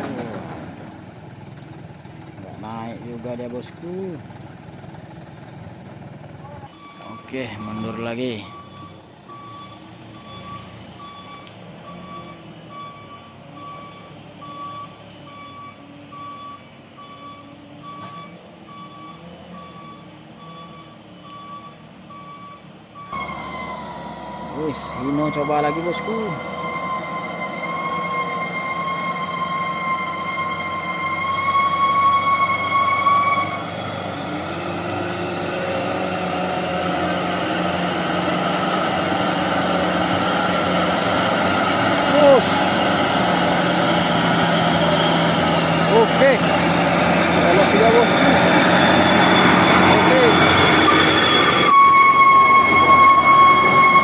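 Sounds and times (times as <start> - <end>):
diesel engine running: 0.0 - 54.0
reversing alarm beeping: 0.0 - 54.0
high whistle-like tone: 6.4 - 46.6, 47.3 - 54.0.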